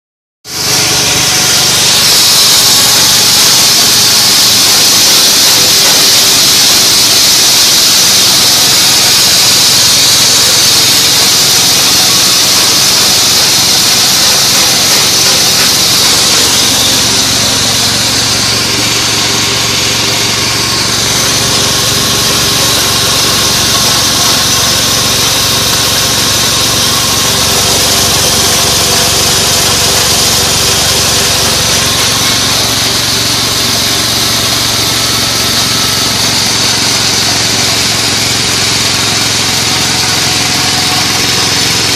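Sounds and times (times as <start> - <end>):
grass chopper engine running: 0.5 - 41.9
high hiss: 0.6 - 36.2.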